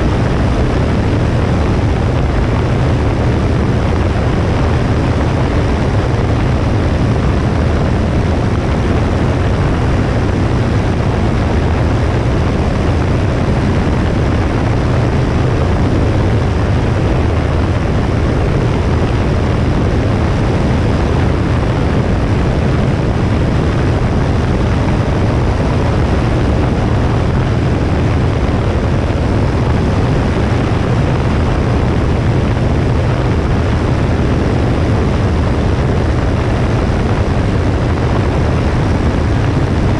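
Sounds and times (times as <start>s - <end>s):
airplane engine and propeller drone: 0.0s - 39.9s
wind rushing over camera: 0.0s - 39.9s.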